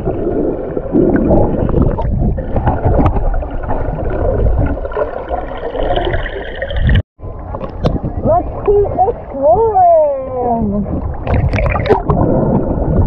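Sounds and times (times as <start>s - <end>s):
muffled water churning underwater: 0.0s - 13.0s.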